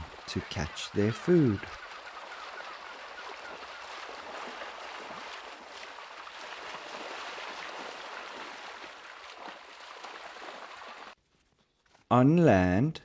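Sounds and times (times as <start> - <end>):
rushing water with bubbling: 0.0 - 11.2.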